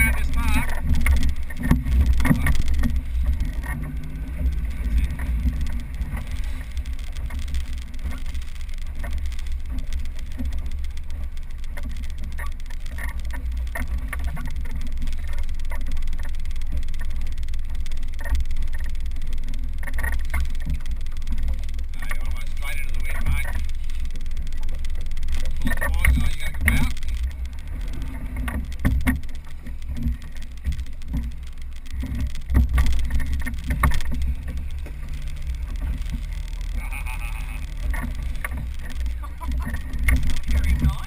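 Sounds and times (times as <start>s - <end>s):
boat engine: 0.0s - 41.0s
wind buffeting microphone: 0.0s - 41.0s.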